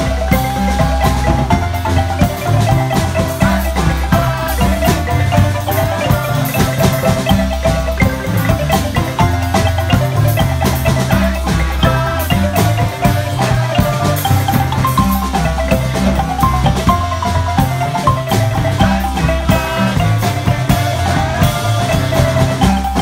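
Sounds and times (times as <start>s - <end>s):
deep bass notes: 0.0s - 23.0s
drum kit: 0.0s - 23.0s
marimbas playing interlocking patterns: 0.0s - 23.0s.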